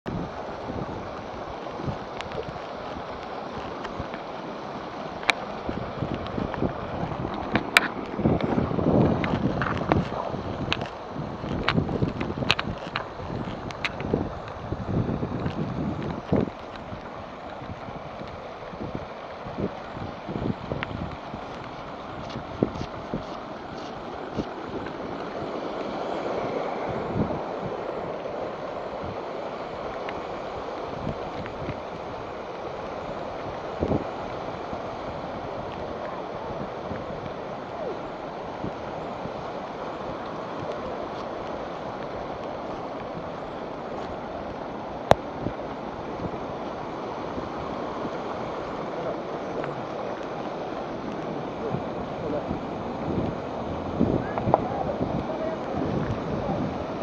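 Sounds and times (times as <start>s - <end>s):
floodwater running: 0.1s - 57.0s
heavy rain pouring: 0.1s - 57.0s
wind thumps on microphone: 0.1s - 57.0s.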